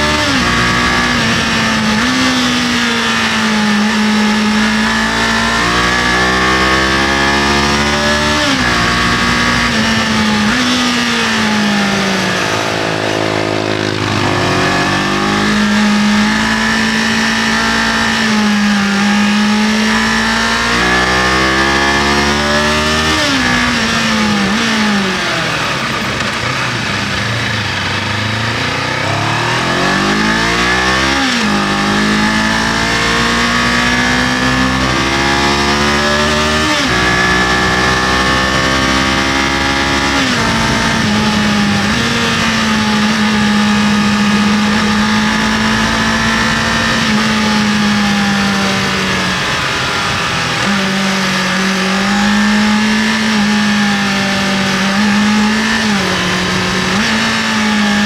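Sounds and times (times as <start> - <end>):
motorcycle engine shifting gears: 0.0 - 58.0
wind and road noise: 0.0 - 58.0.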